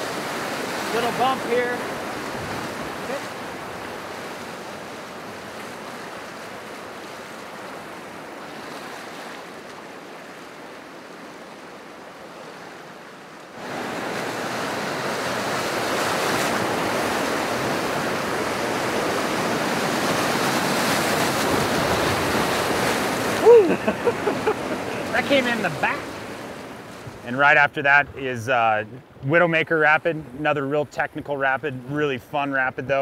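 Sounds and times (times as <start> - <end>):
whitewater rapids rushing: 0.0 - 28.4.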